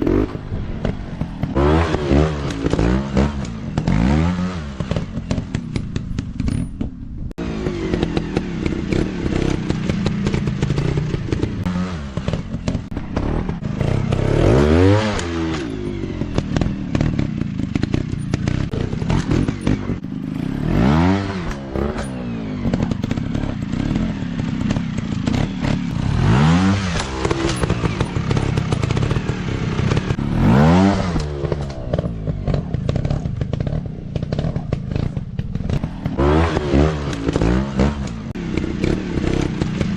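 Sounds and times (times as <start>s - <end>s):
dirt bike engine revving: 0.0s - 6.4s, 7.4s - 39.9s
engine clatter: 0.0s - 39.9s.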